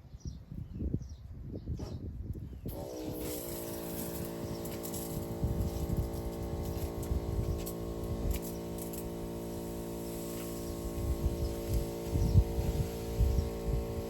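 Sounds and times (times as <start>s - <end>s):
small pump motor humming: 2.7s - 14.0s.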